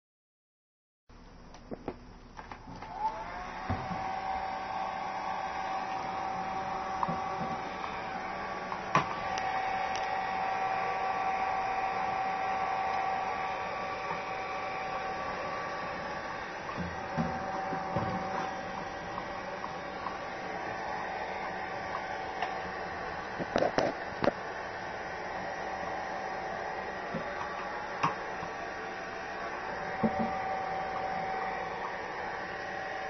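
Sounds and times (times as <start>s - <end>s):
hair dryer whining: 2.4s - 33.0s.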